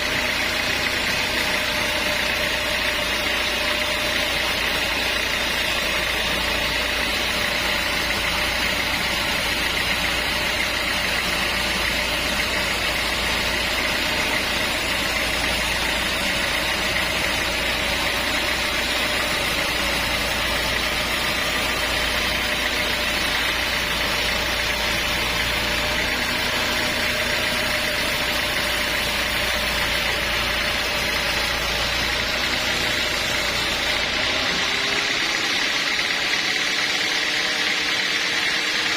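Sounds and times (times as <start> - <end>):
sawmill engine drone: 0.0 - 38.9.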